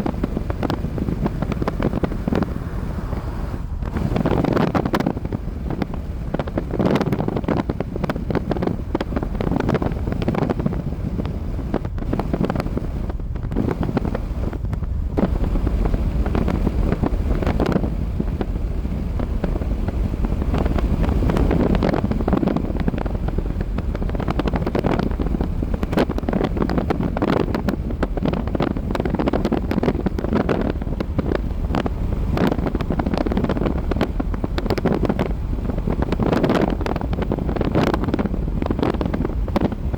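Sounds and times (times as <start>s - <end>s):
wind blowing in gusts: 0.0s - 39.9s
wind buffeting: 0.0s - 39.9s.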